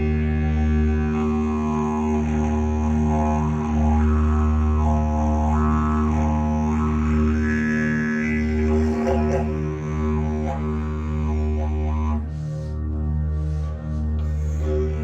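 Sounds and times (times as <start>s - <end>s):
deep musical drone: 0.0s - 15.0s.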